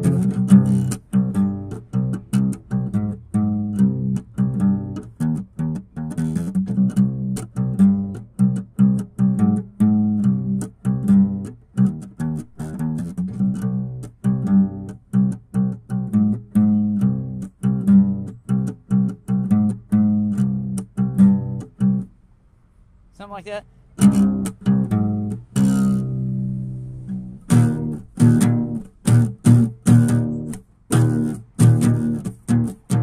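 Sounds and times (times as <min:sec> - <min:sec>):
plucked low string notes: 0:00.0 - 0:22.1, 0:24.0 - 0:33.0.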